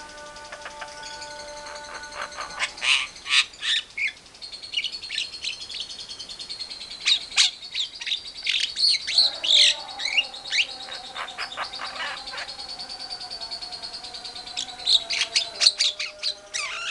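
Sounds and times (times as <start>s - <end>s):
birds chirping and squawking: 0.0s - 16.9s.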